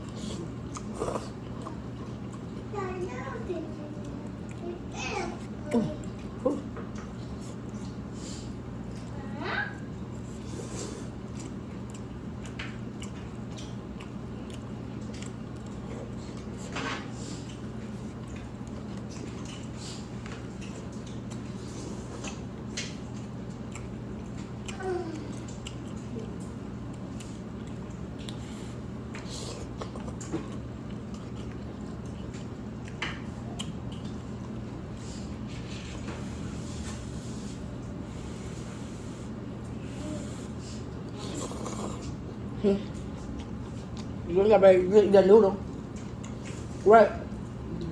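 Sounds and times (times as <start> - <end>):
person chewing noodles: 0.0 - 2.7, 3.7 - 9.2, 9.8 - 44.3, 45.6 - 47.9
steady low hum: 0.0 - 47.9.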